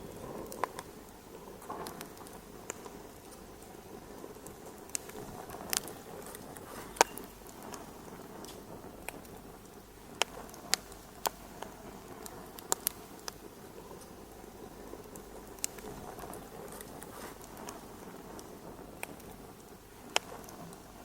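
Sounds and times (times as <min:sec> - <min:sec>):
burning fire popping: 0:00.0 - 0:21.0
wood fire crackling: 0:00.0 - 0:21.0.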